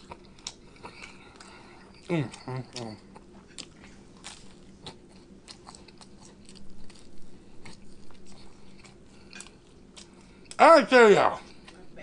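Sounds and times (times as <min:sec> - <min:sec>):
crunchy bread being chewed: 0:00.0 - 0:10.6, 0:11.3 - 0:12.0.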